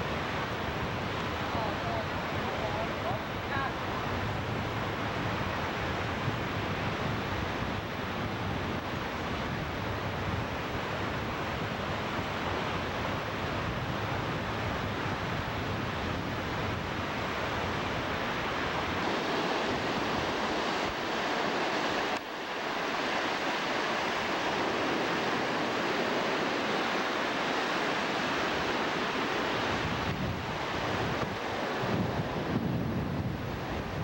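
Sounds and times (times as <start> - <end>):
wind buffeting microphone: 0.0 - 22.2, 23.2 - 34.0
ocean surf breaking: 0.0 - 34.0.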